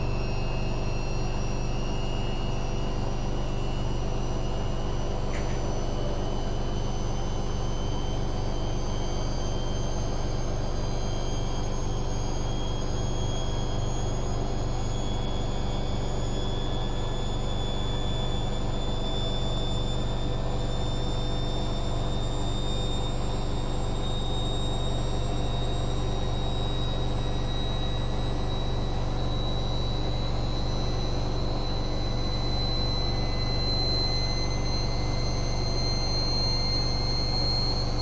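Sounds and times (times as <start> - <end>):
high motor whine: 0.0 - 38.0.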